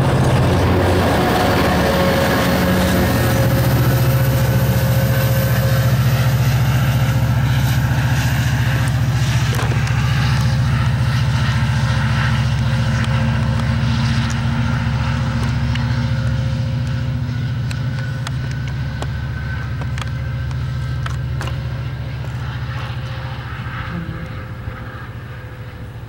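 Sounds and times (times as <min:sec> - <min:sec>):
locomotive engine drone: 0:00.0 - 0:26.0.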